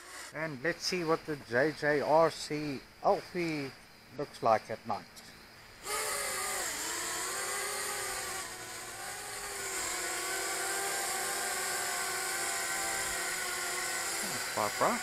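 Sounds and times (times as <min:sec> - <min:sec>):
small quadcopter motors whining: 0:00.0 - 0:03.6, 0:05.2 - 0:15.0.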